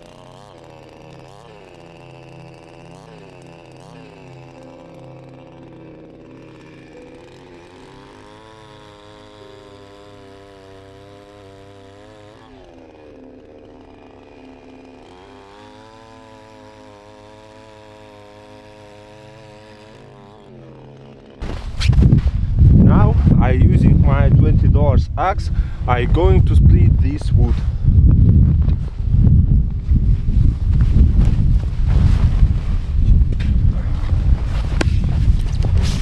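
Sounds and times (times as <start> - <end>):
chainsaw revving and idling: 0.0 - 36.0.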